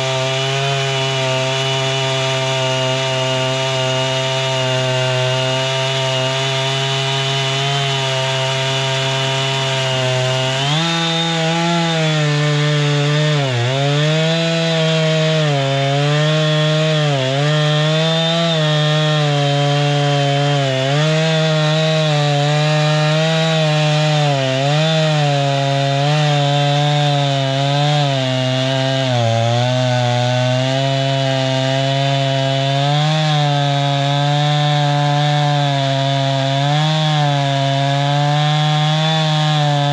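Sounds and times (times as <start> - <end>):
band saw cutting through log: 0.0 - 39.9.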